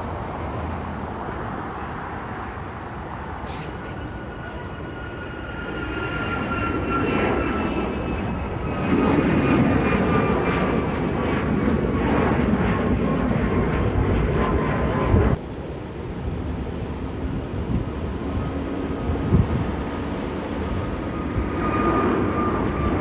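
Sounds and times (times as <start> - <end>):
jet engine whine: 0.0 - 23.0
loud jet rumble: 0.0 - 23.0.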